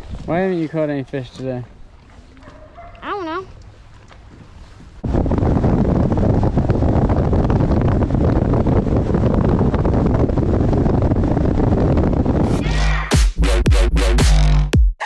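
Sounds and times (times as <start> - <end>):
wind rush on microphone: 0.0 - 13.1.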